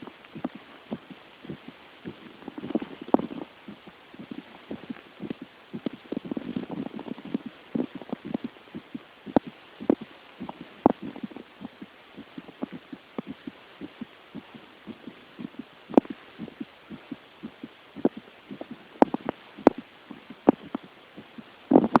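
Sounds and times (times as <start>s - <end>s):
fast heartbeat thumps: 0.3s - 22.0s.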